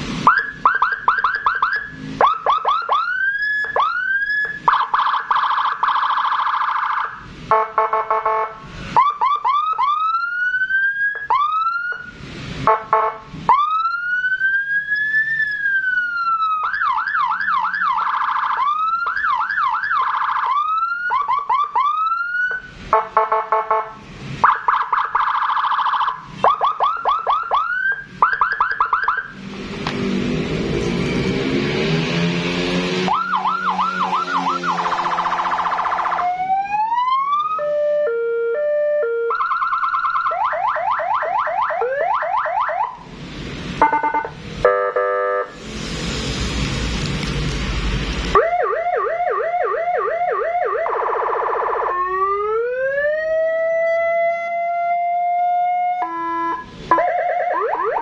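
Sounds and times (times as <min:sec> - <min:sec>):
electronic police siren: 0:00.2 - 0:29.4, 0:33.0 - 0:43.1, 0:43.8 - 0:45.6, 0:48.3 - 0:58.0.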